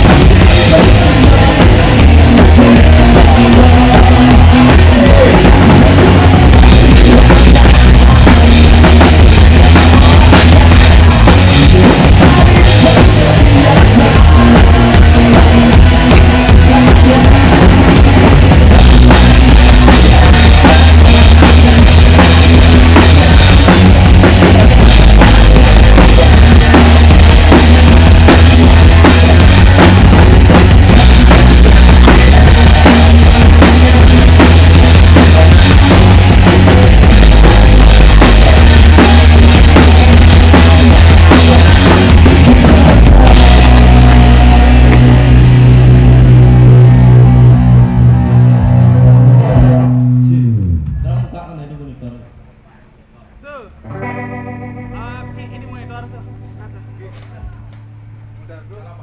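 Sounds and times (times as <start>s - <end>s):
drums and cymbals: 0.0s - 48.3s
live rock band: 0.0s - 51.3s, 53.7s - 58.4s
bass notes: 0.0s - 59.0s.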